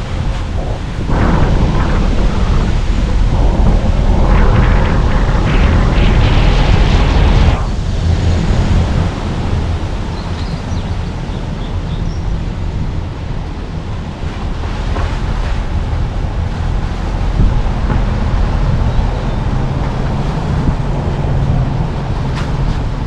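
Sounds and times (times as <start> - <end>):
loud rushing noise: 0.0 - 11.3, 12.6 - 23.0
car tyres and engine rumbling: 0.0 - 23.0.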